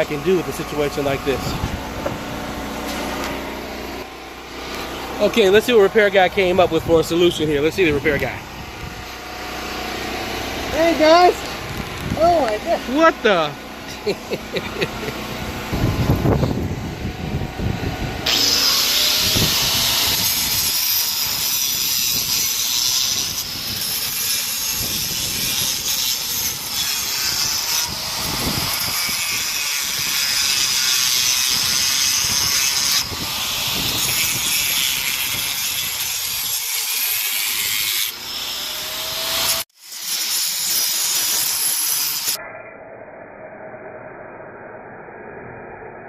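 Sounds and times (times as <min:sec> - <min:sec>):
power saw cutting: 0:00.0 - 0:42.4.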